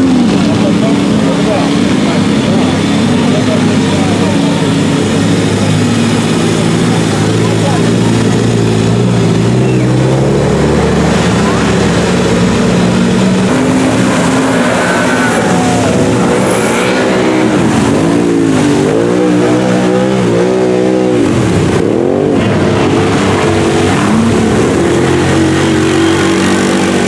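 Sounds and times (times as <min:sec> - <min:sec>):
off-road engines revving: 0:00.0 - 0:27.0.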